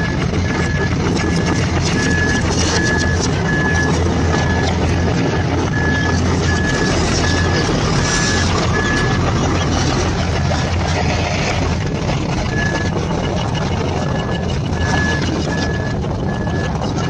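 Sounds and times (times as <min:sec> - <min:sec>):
reversing alarm beeping: 0:00.0 - 0:10.9, 0:11.8 - 0:17.0
vehicle engine running: 0:00.0 - 0:17.0.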